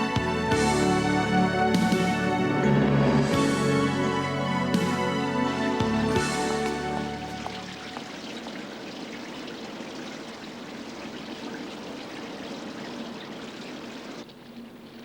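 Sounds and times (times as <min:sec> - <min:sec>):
running water: 0:00.0 - 0:15.0.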